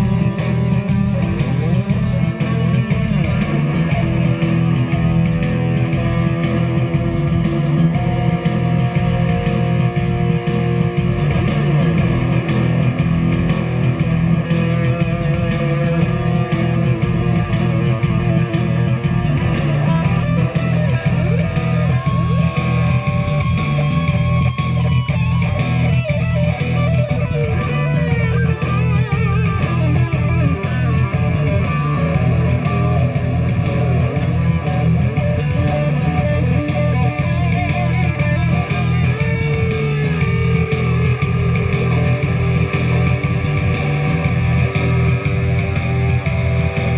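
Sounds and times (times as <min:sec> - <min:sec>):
bass guitar: 0:00.0 - 0:46.9
drums steady beat: 0:00.0 - 0:46.9
electric guitar: 0:00.0 - 0:46.9.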